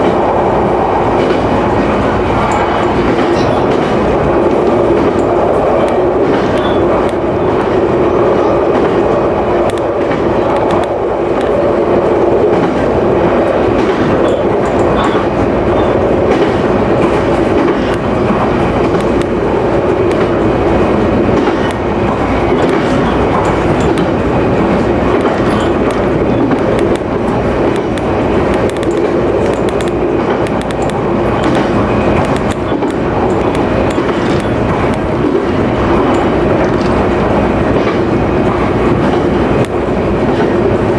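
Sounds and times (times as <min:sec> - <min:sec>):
train rolling rumble: 0:00.0 - 0:40.9
wheels clicking on rails: 0:00.0 - 0:40.9.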